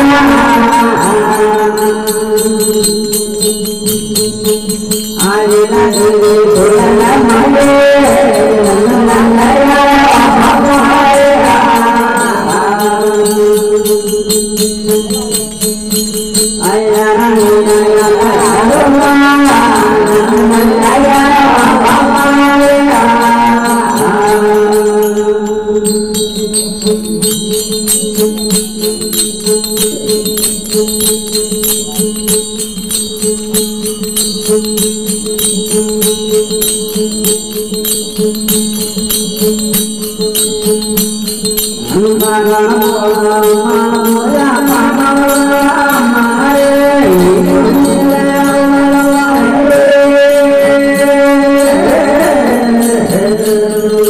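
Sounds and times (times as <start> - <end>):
man singing: 0.0 - 27.7, 28.8 - 32.6, 41.7 - 54.0
fast percussion beat: 0.0 - 54.0.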